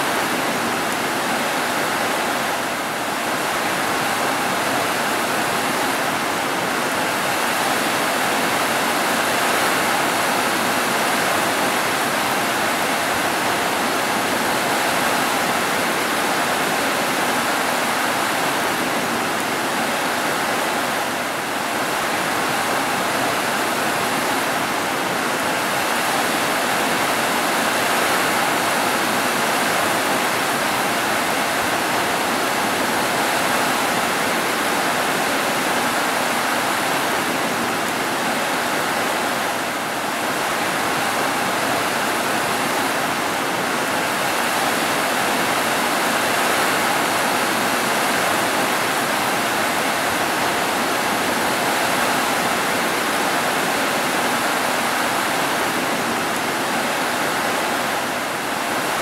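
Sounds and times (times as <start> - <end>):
heavy rain on roofs: 0.0 - 59.0.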